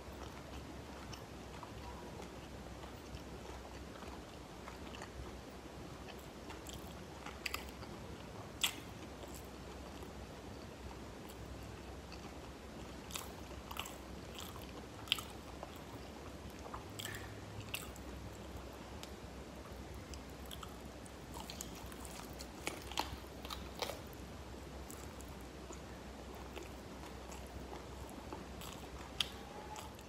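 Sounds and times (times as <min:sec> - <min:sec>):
person chewing crisp food: 0:00.1 - 0:30.0.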